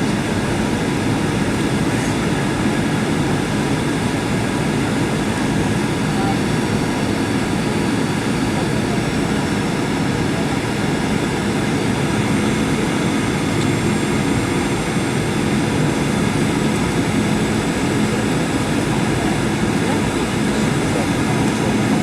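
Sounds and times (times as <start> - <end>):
jet engines humming: 0.0 - 22.0.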